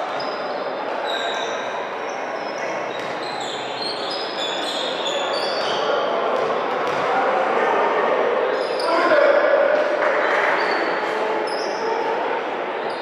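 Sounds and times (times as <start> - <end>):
court noise: 0.0 - 13.0
crowd chatter: 0.0 - 13.0.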